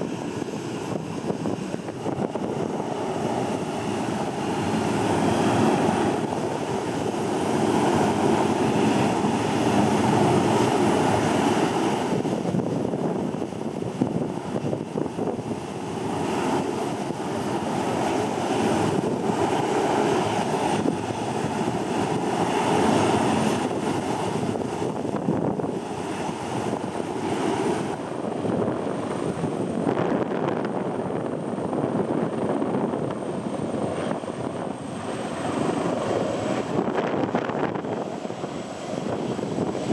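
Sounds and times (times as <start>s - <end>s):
jet engines running: 0.0s - 39.9s
wind buffeting microphone: 0.0s - 39.9s.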